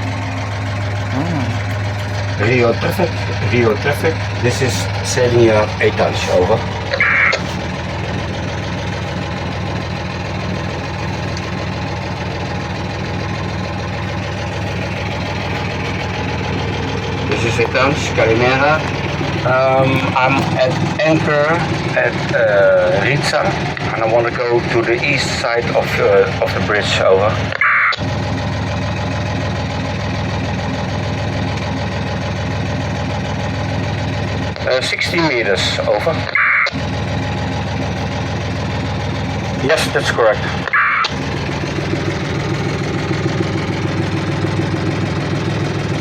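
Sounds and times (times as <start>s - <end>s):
boat engine idling: 0.0s - 46.0s.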